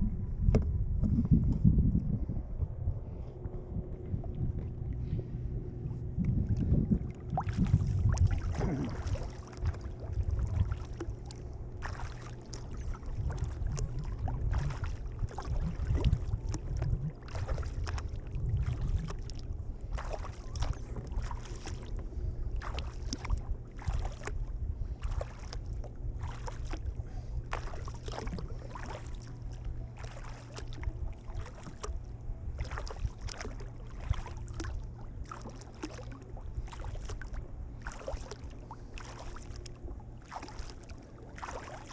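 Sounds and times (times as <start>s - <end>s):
steady low rumble: 0.0s - 41.9s
paddle splashing in water: 7.0s - 41.9s.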